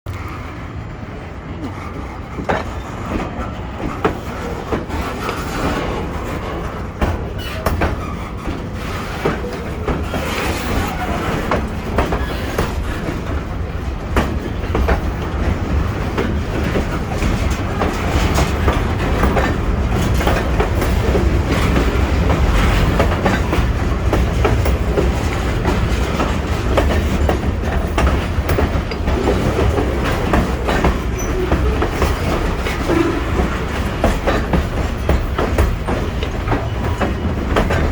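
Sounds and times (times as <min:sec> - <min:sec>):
train wheels clacking over rail joints: 0:01.5 - 0:37.9.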